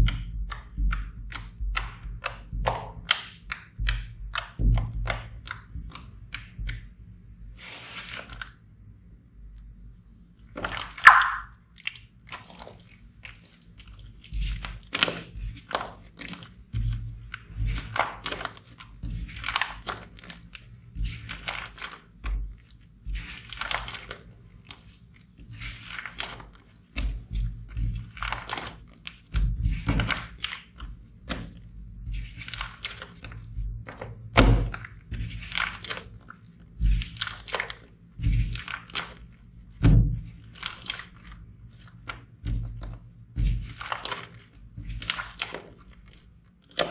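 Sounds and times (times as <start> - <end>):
slime squishing and crackling: 0.0 - 8.6, 10.4 - 46.9.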